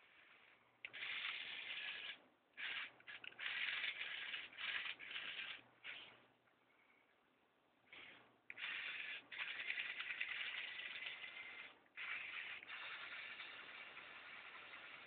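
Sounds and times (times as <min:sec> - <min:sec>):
toy electric motors whirring: 0:00.0 - 0:06.1, 0:07.9 - 0:15.0.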